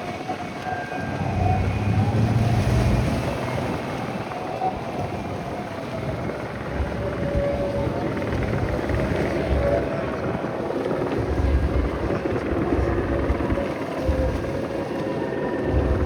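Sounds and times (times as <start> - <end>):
motor drone with whine: 0.0 - 16.0
wind noise: 0.0 - 16.0.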